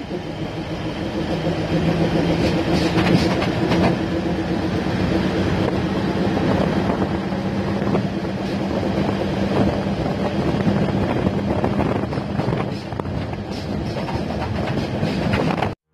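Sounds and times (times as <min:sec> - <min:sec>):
low engine drone: 0:00.0 - 0:15.8
rushing noise of moving train: 0:00.0 - 0:15.9.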